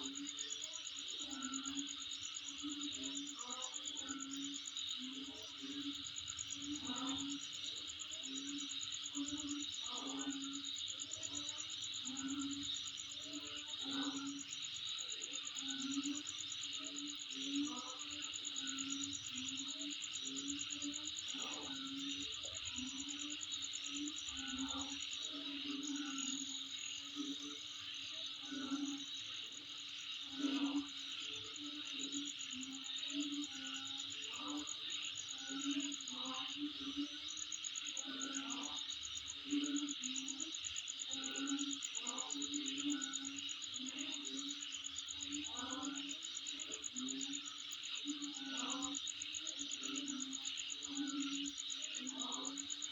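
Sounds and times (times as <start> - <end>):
night insects trilling: 0.0 - 52.9.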